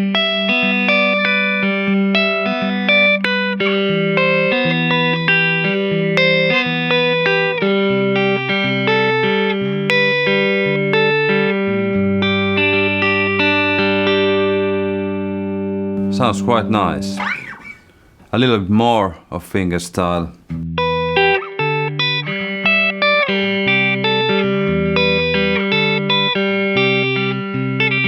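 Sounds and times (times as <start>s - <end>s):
fingerstyle electric guitar: 0.0s - 18.5s, 20.4s - 28.0s.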